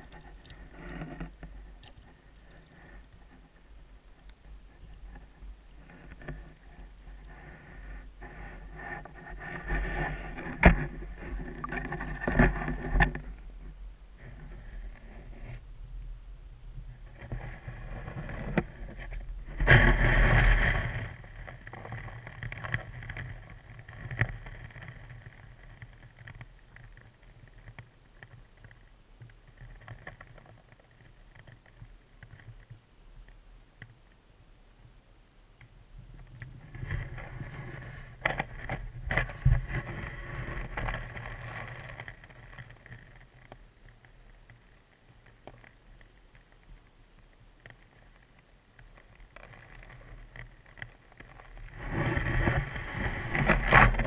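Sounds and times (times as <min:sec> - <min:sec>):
muffled underwater water movement: 0:00.0 - 0:54.0.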